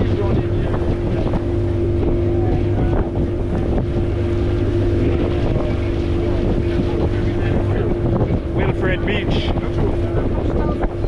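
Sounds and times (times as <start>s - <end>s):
engine running: 0.0s - 11.0s
wind buffeting microphone: 0.0s - 11.0s.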